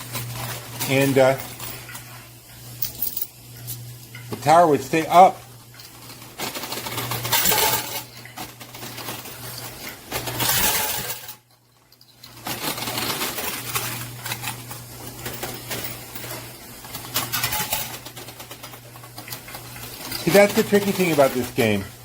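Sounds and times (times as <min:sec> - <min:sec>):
coins clinking and rattling: 0:00.0 - 0:04.3, 0:05.6 - 0:21.9.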